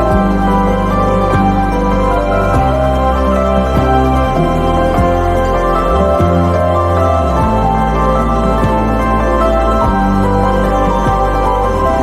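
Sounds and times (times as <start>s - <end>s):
calm new-age music: 0.0s - 12.0s.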